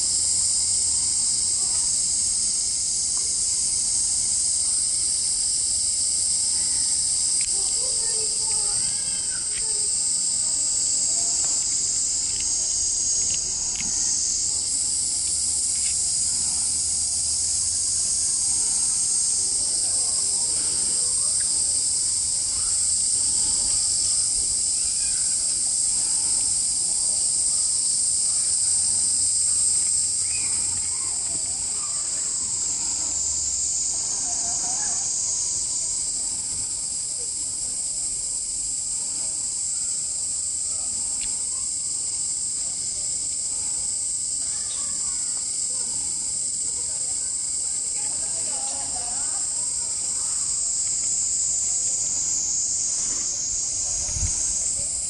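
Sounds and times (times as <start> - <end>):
faint murmur of voices: 0.0 - 55.0
insect chorus drone: 0.0 - 55.0.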